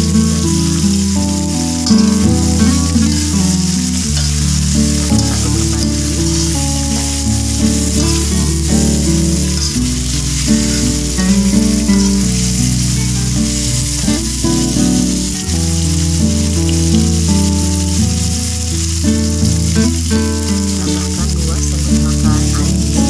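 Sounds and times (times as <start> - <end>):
background music with bass line: 0.0 - 23.0
vegetables sizzling in hot oil: 0.0 - 23.0
spatula stirring in wok: 0.2 - 21.8.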